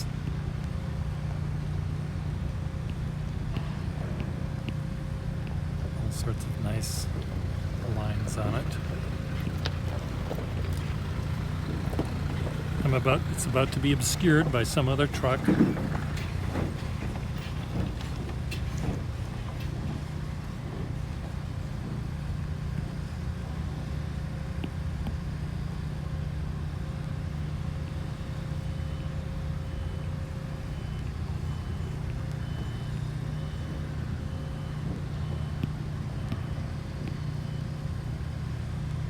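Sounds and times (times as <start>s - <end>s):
faint backup alarm beeping: 0.0s - 39.0s
truck engine rumbling: 0.0s - 39.0s.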